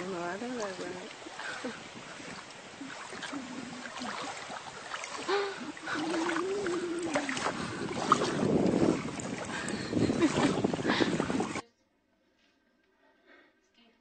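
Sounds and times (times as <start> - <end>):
shallow water sloshing: 0.0 - 11.6.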